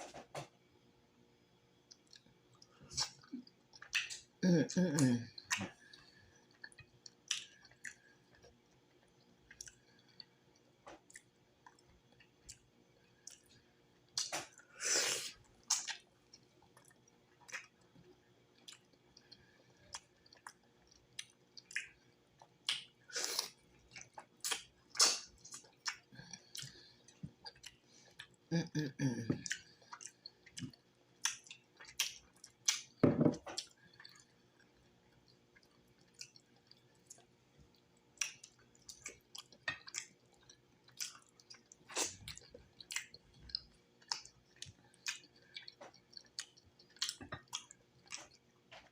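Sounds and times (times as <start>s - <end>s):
wet chewing and mouth smacking: 1.9s - 4.3s, 5.2s - 14.7s, 15.4s - 28.4s, 29.4s - 48.9s.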